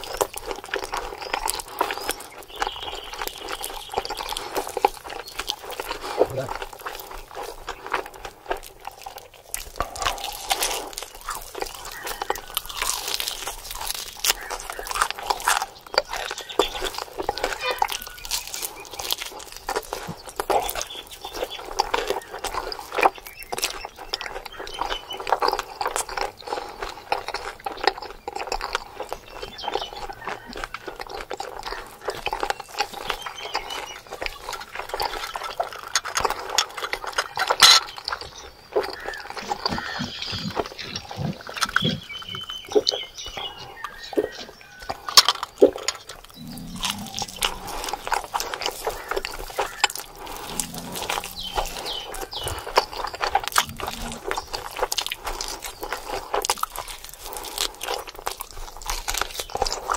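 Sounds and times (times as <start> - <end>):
wet eating clicks and smacks: 0.0 - 59.9.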